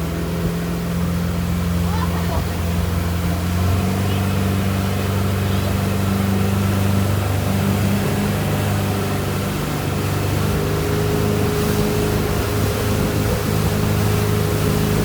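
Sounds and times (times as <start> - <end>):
motorboat engine hum: 0.0 - 15.0.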